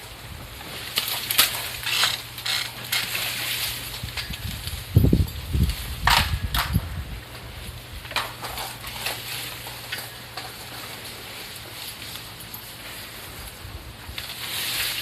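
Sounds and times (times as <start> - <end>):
bamboo stalks crackling and rustling: 0.0 - 15.0.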